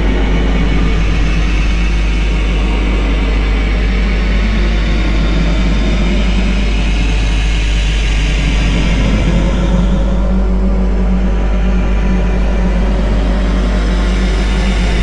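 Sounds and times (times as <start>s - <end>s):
dark droning music: 0.0s - 15.0s.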